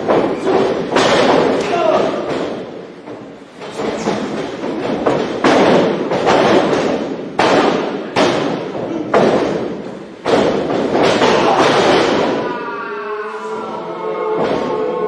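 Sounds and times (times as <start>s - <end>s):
heavy thuds on wrestling ring: 0.0s - 12.5s.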